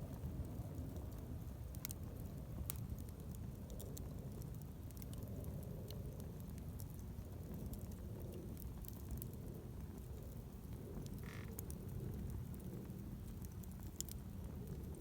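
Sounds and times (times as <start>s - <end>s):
low fire rumble: 0.0s - 15.0s
campfire crackling and popping: 0.1s - 15.0s.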